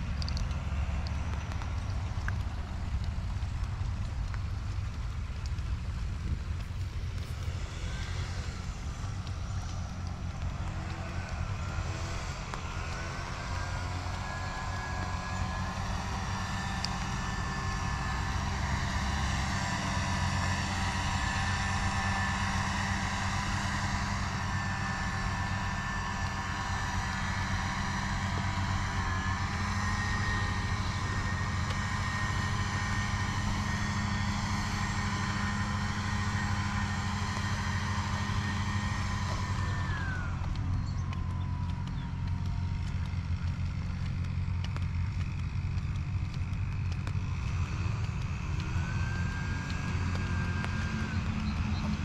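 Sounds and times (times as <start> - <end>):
motor humming: 0.0 - 52.0
whining tones: 0.0 - 52.0.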